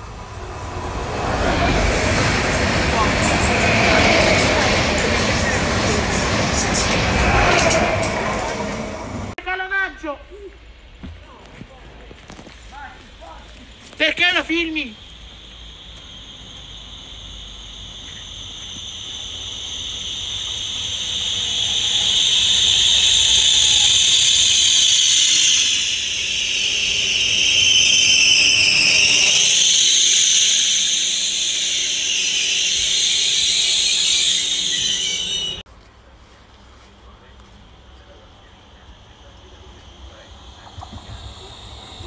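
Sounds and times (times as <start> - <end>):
low train rumble: 0.0 - 42.0
train brakes squealing: 0.7 - 9.4, 14.1 - 35.6, 38.0 - 42.0.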